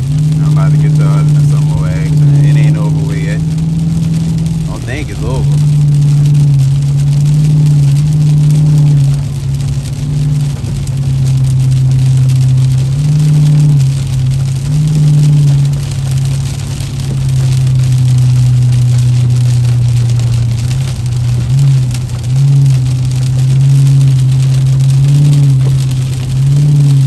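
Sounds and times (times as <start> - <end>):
car engine droning: 0.0 - 27.0
rain and wet road hiss: 0.0 - 27.0.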